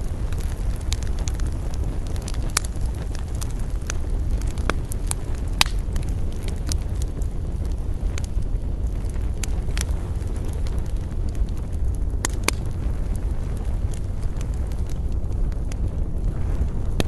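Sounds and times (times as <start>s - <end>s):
fire crackles and pops: 0.0s - 17.0s
wood fire rumble: 0.0s - 17.0s.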